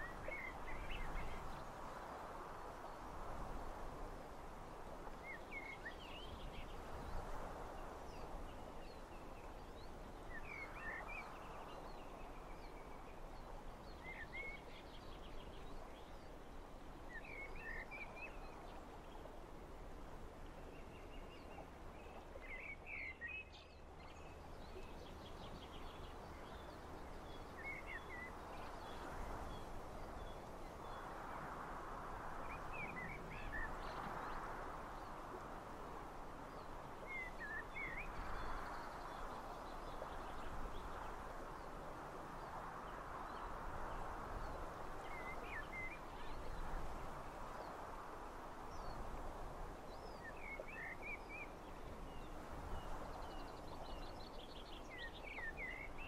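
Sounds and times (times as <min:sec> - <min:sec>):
wind: 0:00.0 - 0:56.0.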